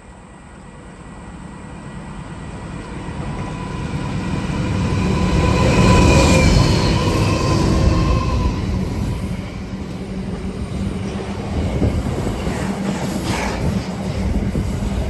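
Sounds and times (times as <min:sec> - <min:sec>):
train passing rumble: 0:00.0 - 0:15.0.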